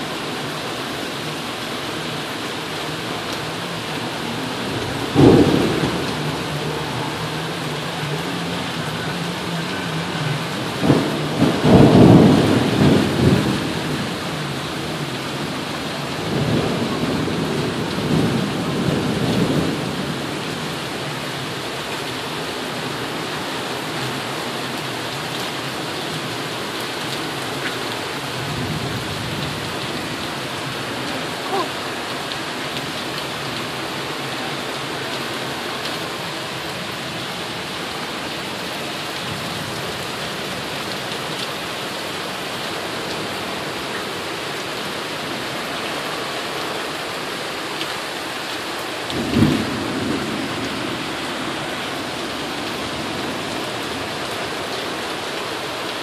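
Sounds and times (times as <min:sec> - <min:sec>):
wind and rain hissing: 0:00.0 - 0:56.0.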